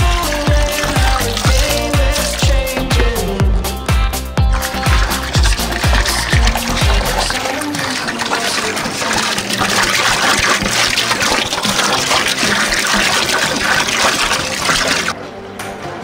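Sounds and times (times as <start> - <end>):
liquid pouring and splashing: 0.0 - 3.4, 4.4 - 15.2.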